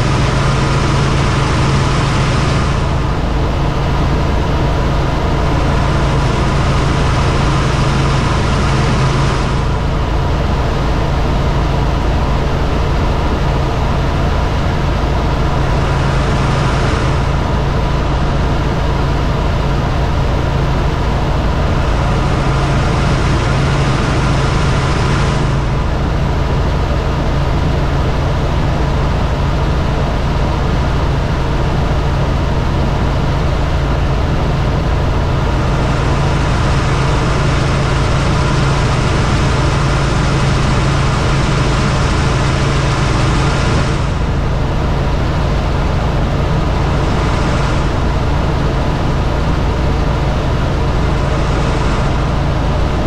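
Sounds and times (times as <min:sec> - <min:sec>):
helicopter engine and rotor: 0:00.0 - 0:53.0.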